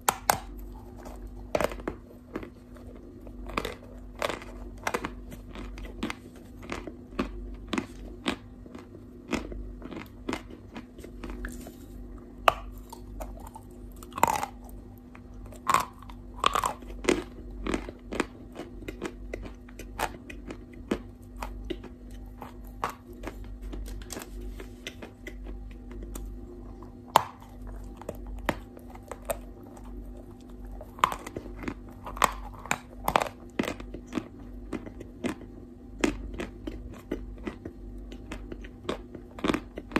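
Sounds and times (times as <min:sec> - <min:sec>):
chalk crunching and chewing: 0:00.0 - 0:39.9
low steady hum: 0:00.0 - 0:39.9.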